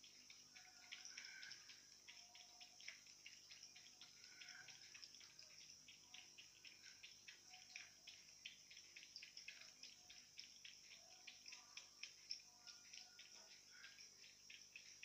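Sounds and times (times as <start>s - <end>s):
cat lapping water: 0.0s - 15.0s.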